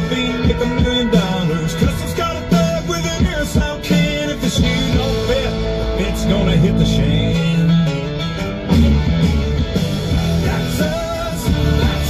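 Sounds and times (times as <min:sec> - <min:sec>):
country song with guitar on radio: 0:00.0 - 0:12.0.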